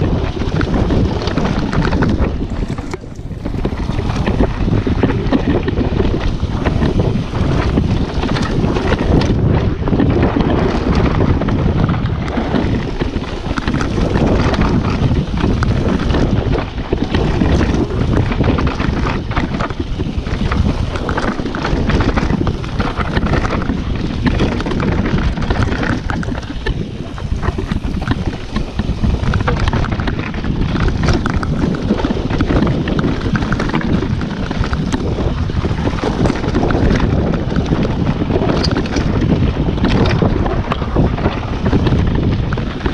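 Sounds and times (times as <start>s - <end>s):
bike rattling over bumps: 0.0s - 42.9s
tyres rolling on dirt and stones: 0.0s - 42.9s
wind buffeting microphone: 0.0s - 42.9s.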